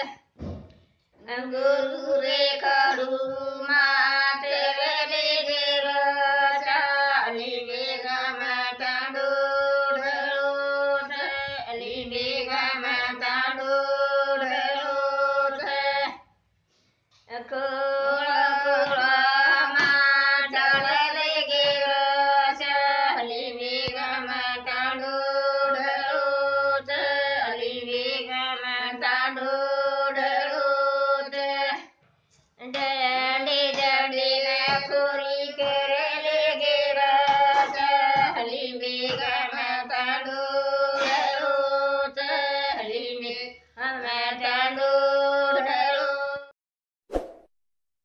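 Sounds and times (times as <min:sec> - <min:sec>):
women singing unaccompanied: 0:00.0 - 0:00.3, 0:01.2 - 0:16.4, 0:17.2 - 0:32.0, 0:32.6 - 0:46.5.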